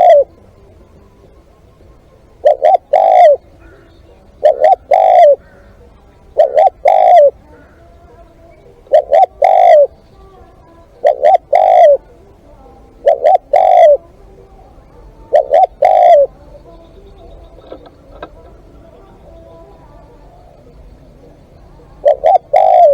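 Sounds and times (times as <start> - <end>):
dove cooing: 0.0 - 22.9.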